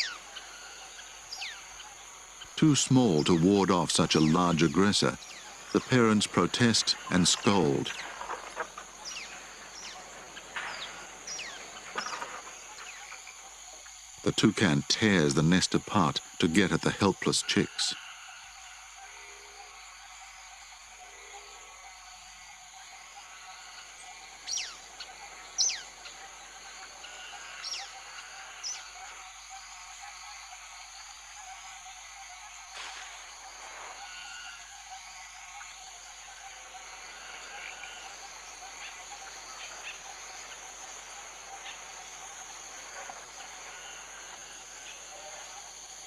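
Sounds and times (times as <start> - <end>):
insects droning: 0.0 - 46.0
steady background hiss: 0.0 - 46.0.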